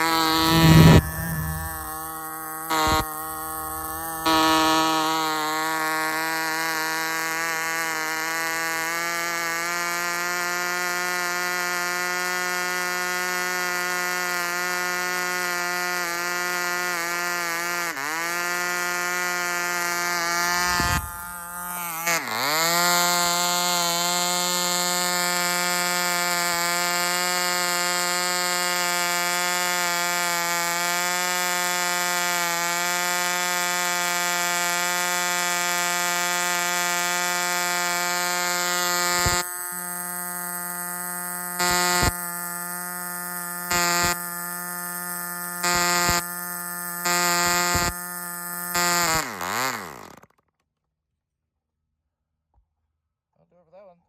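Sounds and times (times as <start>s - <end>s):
model airplane engine buzzing: 0.0s - 50.4s.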